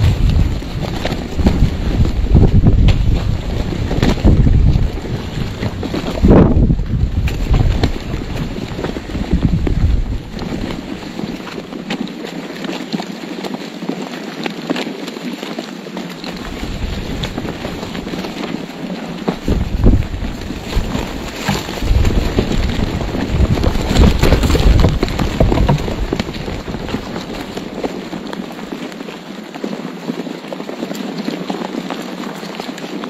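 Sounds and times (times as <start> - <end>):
vultures flapping wings: 0.0 - 33.0.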